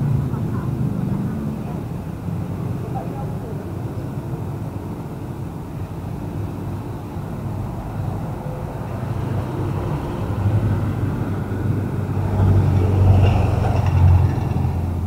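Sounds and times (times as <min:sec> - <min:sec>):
vans driving past: 0:00.0 - 0:15.0.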